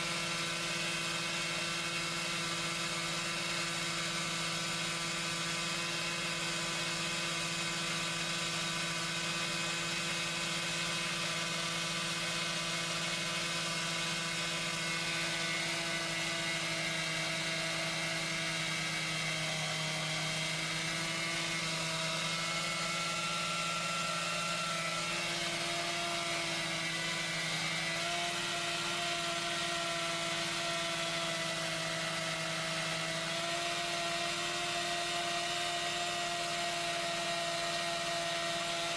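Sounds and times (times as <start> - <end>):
chainsaw running: 0.0 - 38.9.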